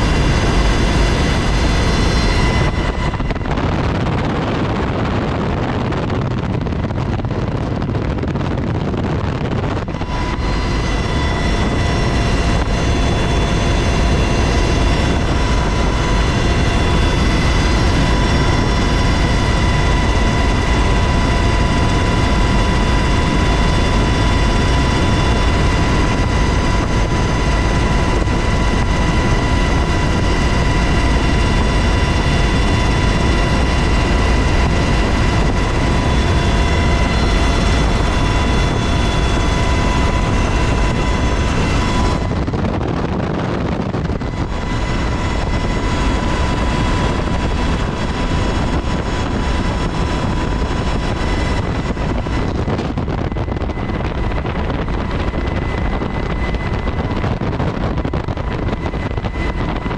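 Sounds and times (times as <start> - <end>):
constant high whine: 0.0 - 59.9
helicopter engines and rotor rumble: 0.0 - 59.9.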